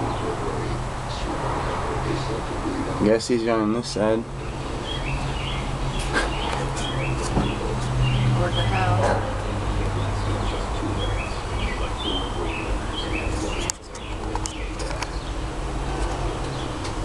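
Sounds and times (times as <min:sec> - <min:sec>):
birds chirping: 0:00.0 - 0:17.0
low hum: 0:00.0 - 0:17.0.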